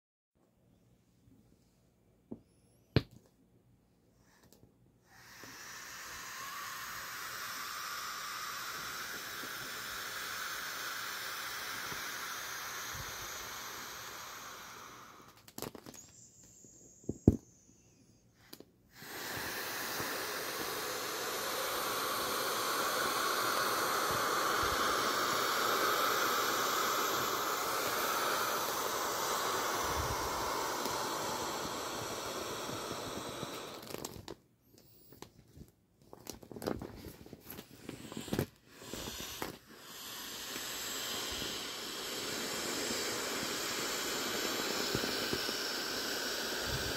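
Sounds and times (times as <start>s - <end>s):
air hissing from inflatable valve: 4.2s - 34.2s, 37.5s - 46.9s.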